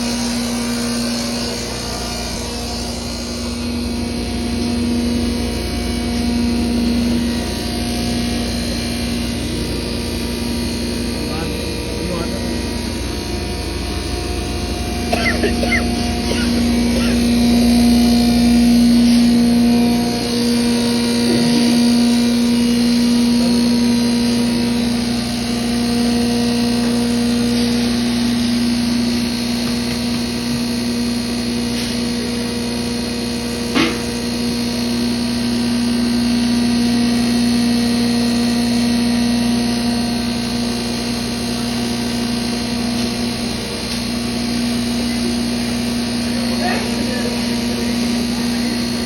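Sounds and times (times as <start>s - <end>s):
grinding machine humming: 0.0s - 49.0s.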